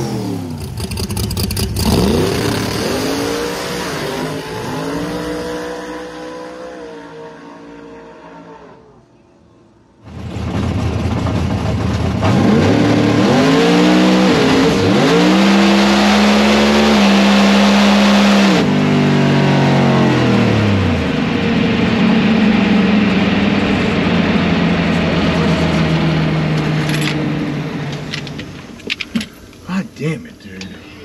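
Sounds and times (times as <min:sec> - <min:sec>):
race car engine accelerating: 0:00.0 - 0:09.1, 0:10.0 - 0:28.6.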